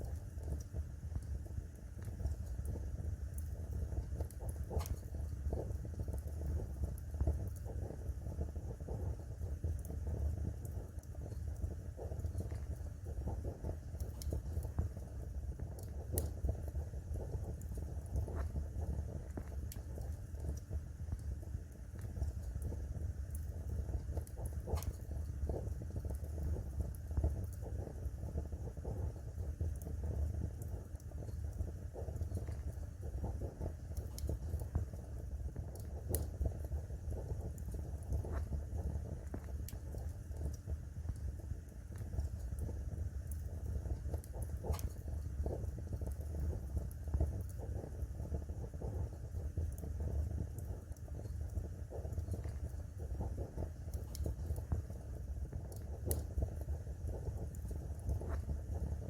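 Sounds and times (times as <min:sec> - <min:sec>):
burning wood popping: 0:00.0 - 0:59.0
fire crackling: 0:00.0 - 0:59.0.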